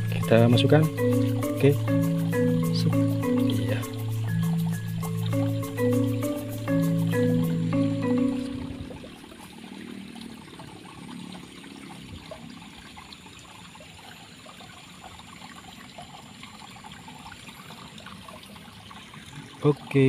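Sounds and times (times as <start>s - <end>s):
water trickling in a ditch: 0.0s - 20.0s.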